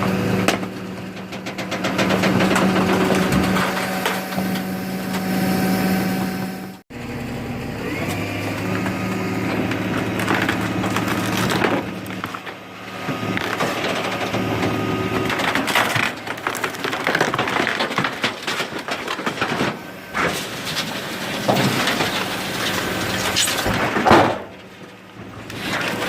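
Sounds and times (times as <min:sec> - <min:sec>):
wood cracking and splintering: 0:00.0 - 0:05.3, 0:07.9 - 0:26.0
hydraulic compactor humming: 0:00.0 - 0:26.0.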